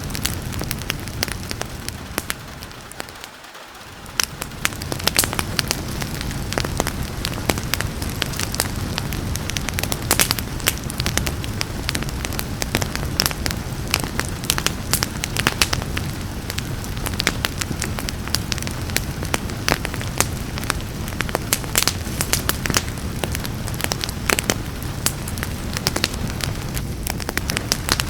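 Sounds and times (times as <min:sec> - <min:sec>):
rain falling softly: 0:00.0 - 0:28.0
wood fire crackling: 0:00.0 - 0:28.0.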